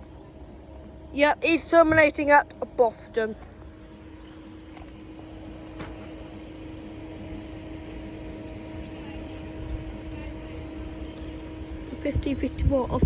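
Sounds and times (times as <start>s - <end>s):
diesel train engine running: 0.0s - 13.0s.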